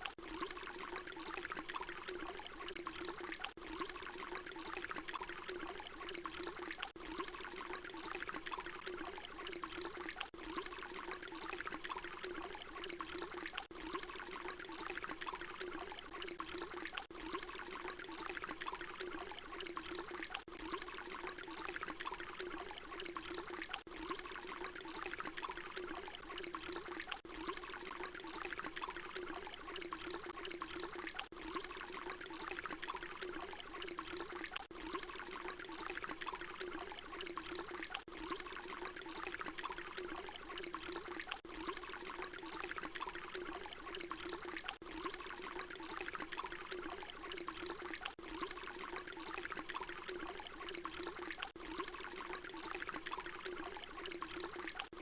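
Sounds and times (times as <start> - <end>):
water pouring: 0.0 - 55.0.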